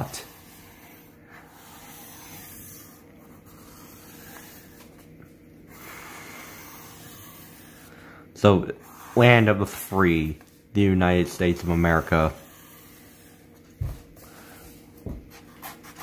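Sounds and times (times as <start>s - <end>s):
pencil scratching on paper: 0.0s - 8.1s, 8.7s - 16.0s.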